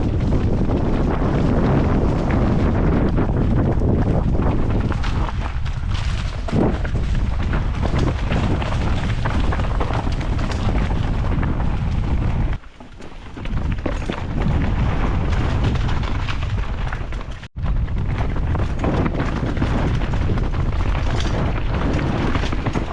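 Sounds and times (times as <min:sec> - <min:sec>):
mountain bike rattling: 0:00.0 - 0:22.9
wind buffeting microphone: 0:00.0 - 0:22.9.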